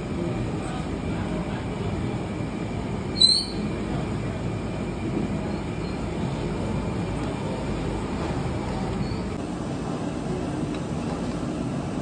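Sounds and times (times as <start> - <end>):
low rumbling street noise: 0.0 - 12.0.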